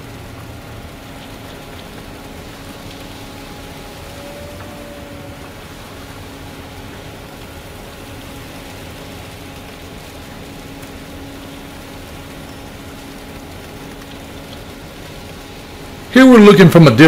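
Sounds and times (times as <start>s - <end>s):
concrete vibrator humming: 0.0s - 17.0s.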